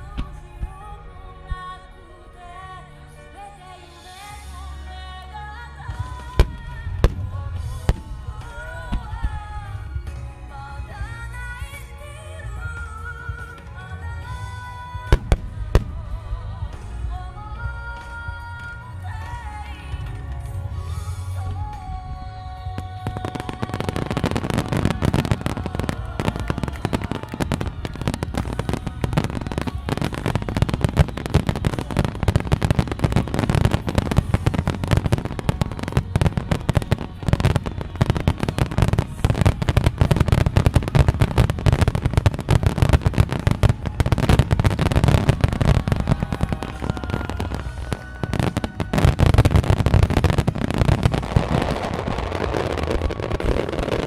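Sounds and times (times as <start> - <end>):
fireworks bangs and crackling: 5.9 - 54.0.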